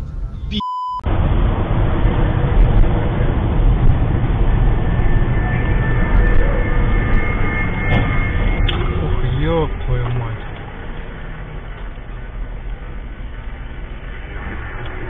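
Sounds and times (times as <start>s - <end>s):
car road noise from inside cabin: 0.0s - 15.0s.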